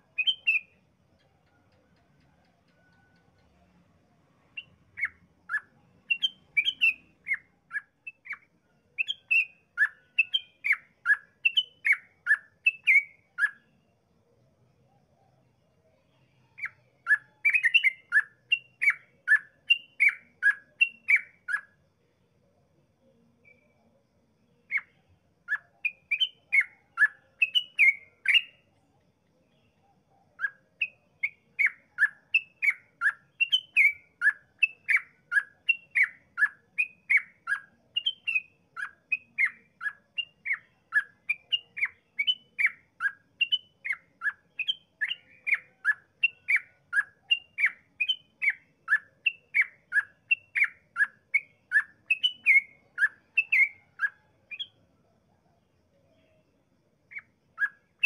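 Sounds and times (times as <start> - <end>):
bird song of clear down-slurred notes: 0.0 - 14.0, 14.7 - 21.8, 22.7 - 54.8, 55.5 - 58.0.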